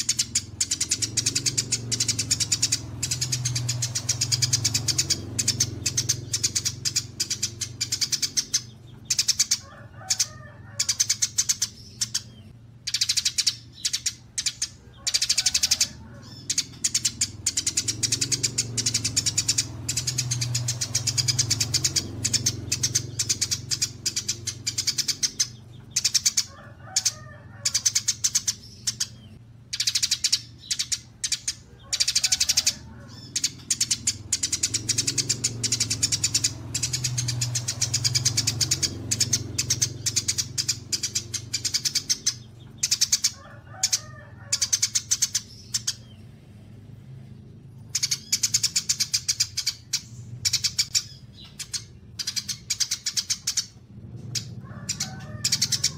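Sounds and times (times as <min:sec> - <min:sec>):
songbirds chattering: 0:00.0 - 0:55.9.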